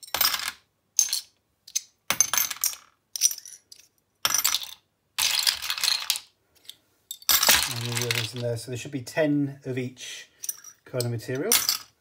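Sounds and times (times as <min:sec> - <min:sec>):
bottle caps and marbles clattering: 0:00.0 - 0:08.6, 0:10.4 - 0:12.0.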